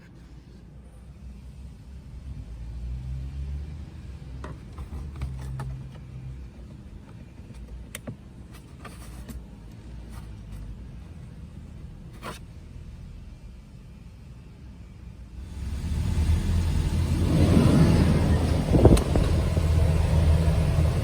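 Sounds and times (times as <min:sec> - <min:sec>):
van engine rumbling: 0:00.7 - 0:21.0.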